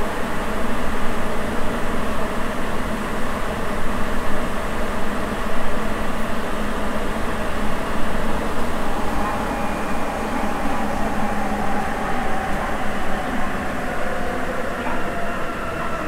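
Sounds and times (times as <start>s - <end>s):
subway train rolling in tunnel: 0.0s - 16.0s.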